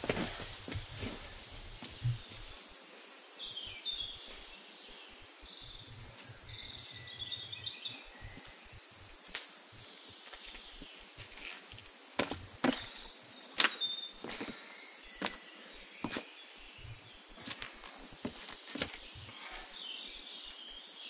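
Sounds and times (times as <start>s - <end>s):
songbird chirping and warbling: 0.0s - 21.0s.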